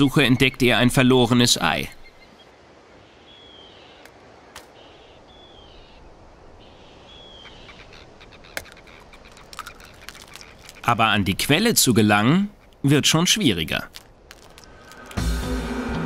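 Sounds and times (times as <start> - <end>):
bird calling: 0.0 - 15.3
faint outdoor ambience: 0.0 - 16.0.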